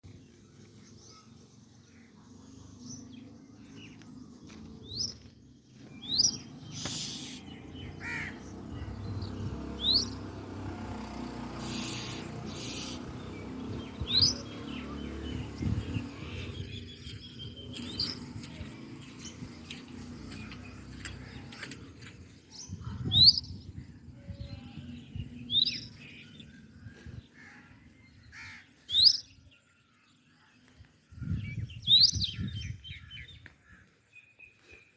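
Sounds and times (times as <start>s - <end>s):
small bird chirping: 0.5s - 26.9s, 28.9s - 29.4s, 30.7s - 33.4s.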